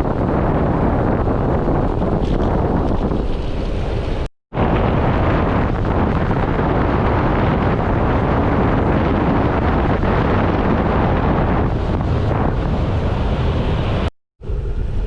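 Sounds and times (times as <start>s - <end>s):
loud wind on microphone: 0.0s - 15.0s
low road rumble: 0.0s - 15.0s.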